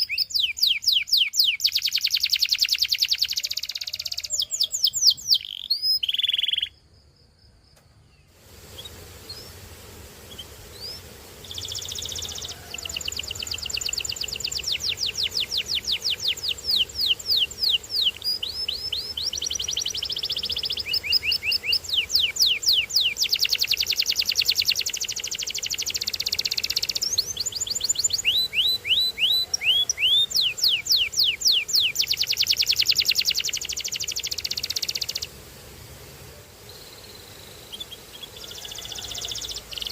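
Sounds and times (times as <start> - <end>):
canary singing trills: 0.0 - 6.8, 10.3 - 35.4, 36.7 - 39.9.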